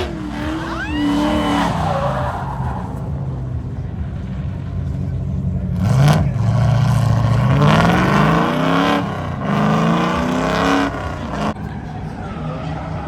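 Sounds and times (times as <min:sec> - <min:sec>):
car engine revving hard: 0:00.0 - 0:11.6.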